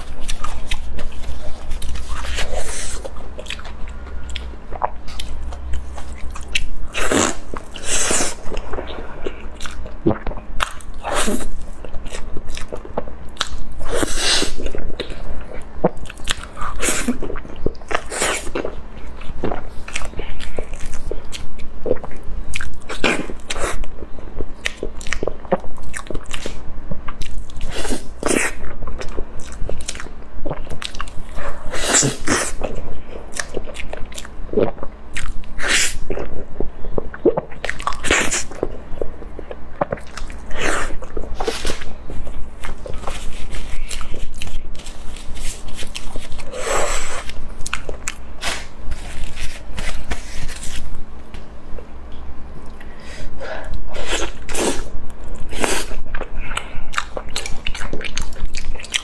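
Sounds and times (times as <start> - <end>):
person chewing soft cake: 0.0 - 59.0.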